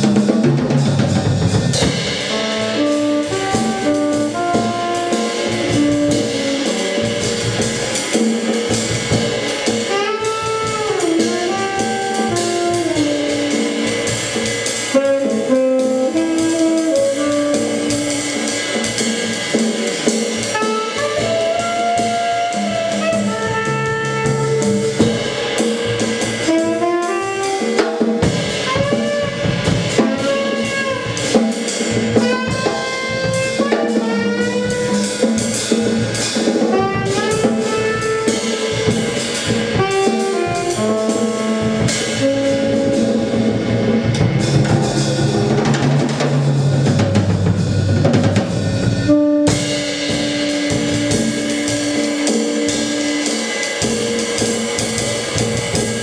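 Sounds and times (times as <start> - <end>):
drum kit and cymbals: 0.0 - 56.0
tenor saxophone melody: 2.1 - 8.8, 9.4 - 19.4, 20.3 - 27.8, 28.4 - 35.5, 36.6 - 45.6, 49.0 - 56.0.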